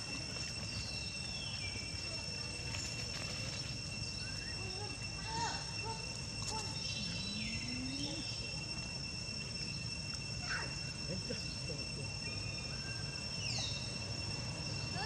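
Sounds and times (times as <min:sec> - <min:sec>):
insects droning: 0:00.0 - 0:15.0
faint chirps and calls: 0:00.3 - 0:15.0.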